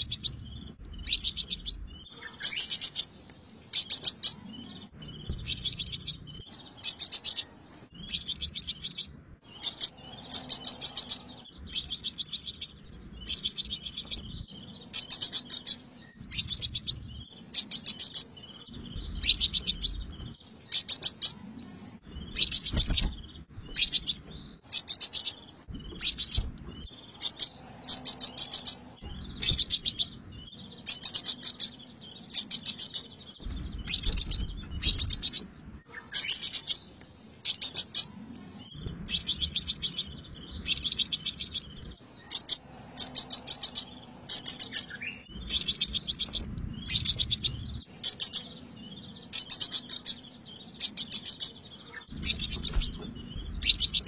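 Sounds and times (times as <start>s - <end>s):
sunbird high trilled calls: 0.0s - 54.0s.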